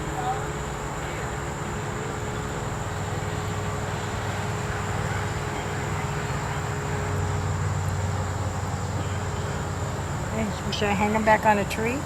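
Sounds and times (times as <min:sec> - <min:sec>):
high-pitched insect chorus: 0:00.0 - 0:12.0
low engine rumble: 0:00.0 - 0:12.0.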